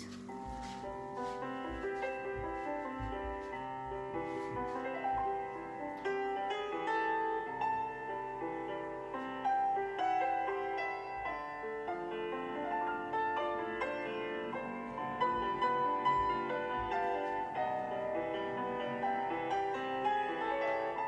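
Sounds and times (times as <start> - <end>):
solo classical piano: 0.0 - 21.0.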